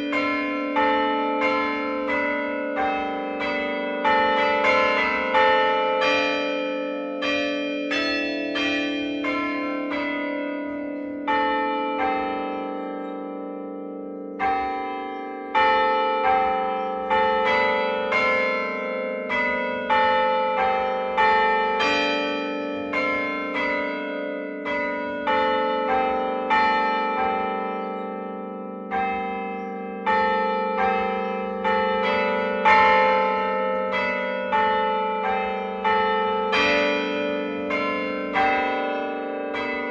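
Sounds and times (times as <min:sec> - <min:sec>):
church bells ringing a tune: 0:00.0 - 0:39.9.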